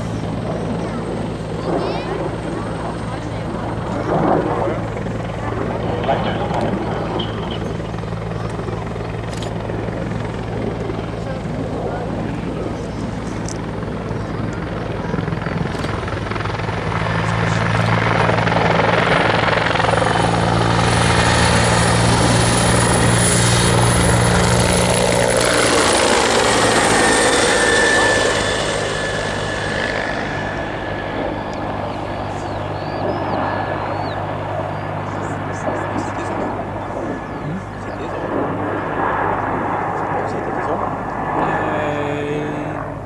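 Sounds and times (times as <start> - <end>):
helicopter flying past: 0.0 - 43.0
turbine whine: 0.0 - 43.0.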